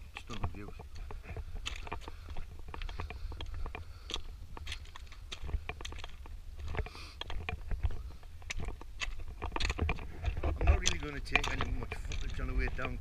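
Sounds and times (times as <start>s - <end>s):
small clicks and crunches: 0.0s - 13.0s
wind buffeting microphone: 0.0s - 13.0s.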